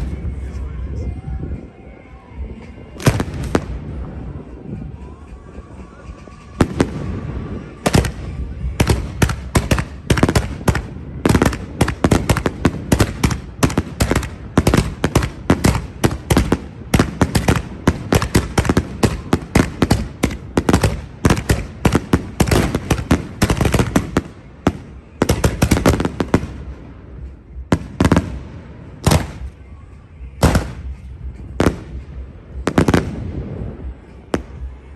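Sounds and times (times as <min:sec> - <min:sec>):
fireworks exploding: 0:03.0 - 0:04.7, 0:06.1 - 0:29.7, 0:30.4 - 0:34.9.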